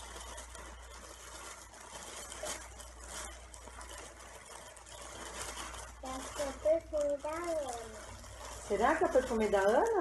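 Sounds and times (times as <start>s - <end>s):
cloth bag rustling: 0.0s - 10.0s.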